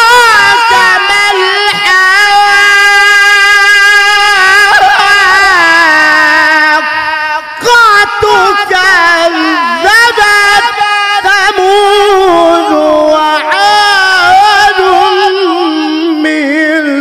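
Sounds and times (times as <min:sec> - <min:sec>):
man reciting melodically into microphone: 0:00.0 - 0:17.0.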